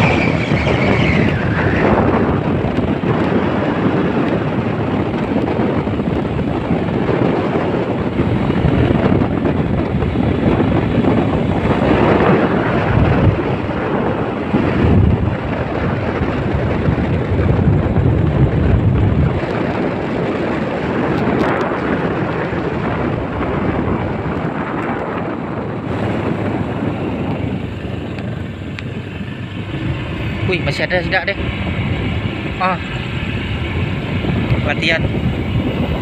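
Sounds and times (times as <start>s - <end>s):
engine and road noise: 0.0s - 36.0s
wind buffeting microphone: 0.0s - 36.0s.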